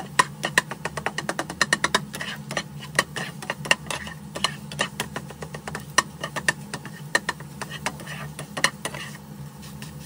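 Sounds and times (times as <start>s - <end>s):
spatula scraping a wok: 0.0s - 10.0s.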